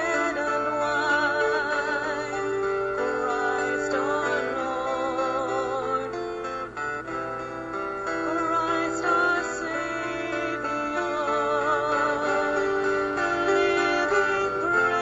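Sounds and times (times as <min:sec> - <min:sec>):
person singing with vibrato: 0:00.0 - 0:15.0
sustained instrumental accompaniment: 0:00.0 - 0:15.0.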